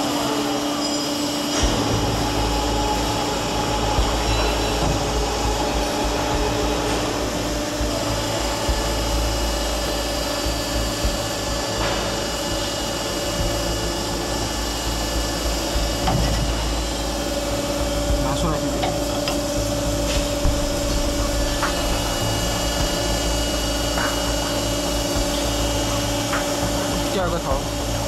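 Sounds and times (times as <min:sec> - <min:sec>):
drilling machine motor hum: 0:00.0 - 0:28.0.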